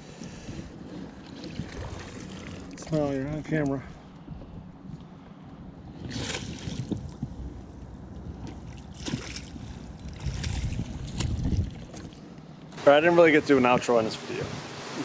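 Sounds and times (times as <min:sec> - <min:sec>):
water splashing against boat: 0:00.0 - 0:04.6, 0:05.9 - 0:15.0
wind rumble on microphone: 0:00.0 - 0:12.4.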